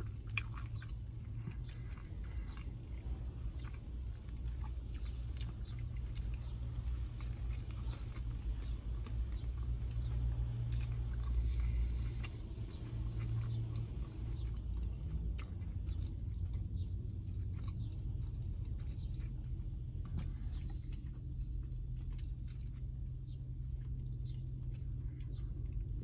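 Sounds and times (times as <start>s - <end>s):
chewing with wet smacks: 0.0s - 26.0s
vehicle cabin hum: 0.0s - 26.0s.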